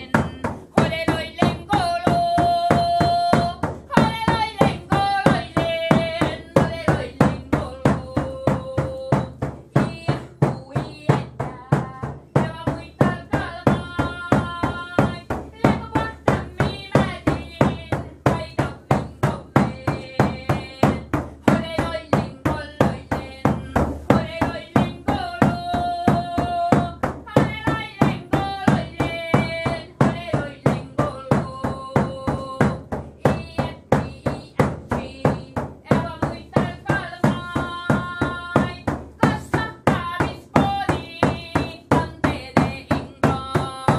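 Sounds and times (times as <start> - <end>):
steady beat of sharp strikes: 0.0 - 43.9.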